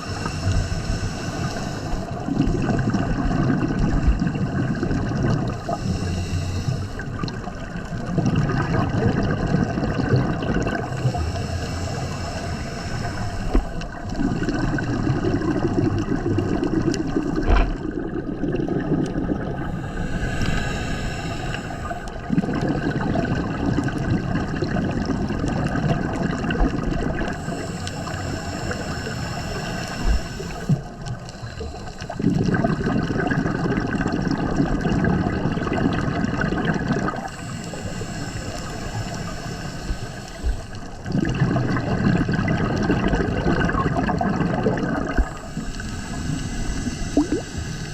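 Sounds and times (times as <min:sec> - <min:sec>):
diver inhaling through regulator: 0:00.0 - 0:47.9
gurgling exhaled bubbles: 0:00.0 - 0:47.9.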